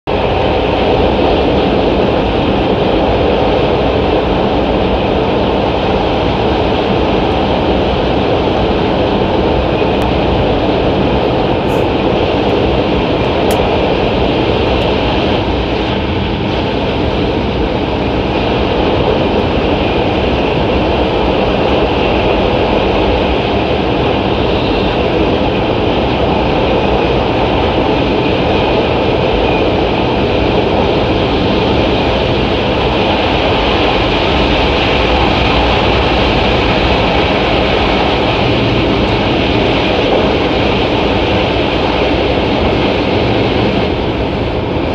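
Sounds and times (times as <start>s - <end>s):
train cabin rumble at speed: 0.0s - 44.9s.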